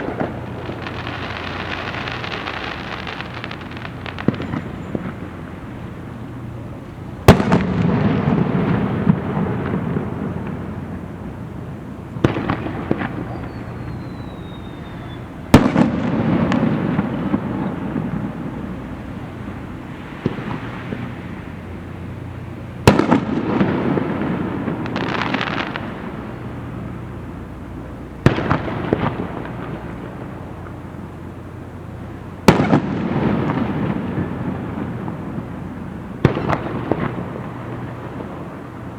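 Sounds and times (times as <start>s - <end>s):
fireworks bangs with echo: 0.0s - 6.3s, 7.2s - 31.2s, 32.2s - 38.9s
fireworks crackling: 0.0s - 38.9s.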